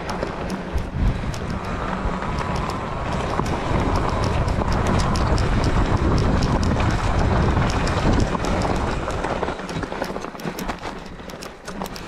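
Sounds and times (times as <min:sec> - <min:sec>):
sharp clicks and rattles: 0:00.0 - 0:12.0
wind rumble on microphone: 0:00.0 - 0:12.0.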